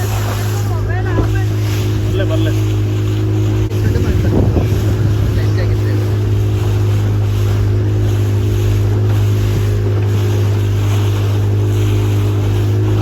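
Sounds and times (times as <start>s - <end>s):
motorboat engine running: 0.0s - 13.0s
wind and water rushing: 0.0s - 13.0s.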